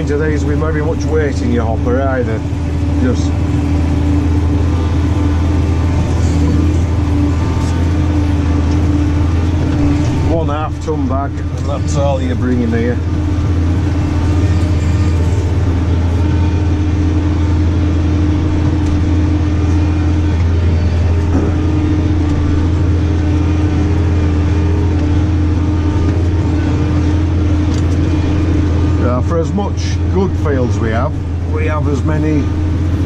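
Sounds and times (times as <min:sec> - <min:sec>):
tractor engine droning: 0:00.0 - 0:33.0.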